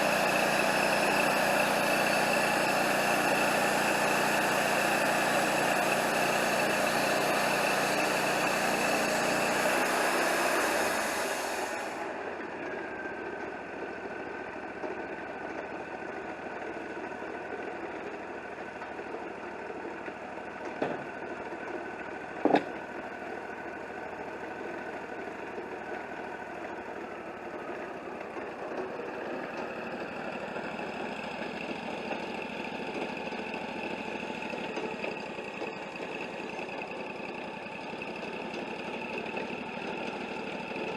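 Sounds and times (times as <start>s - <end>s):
band sawmill running: 0.0s - 40.9s.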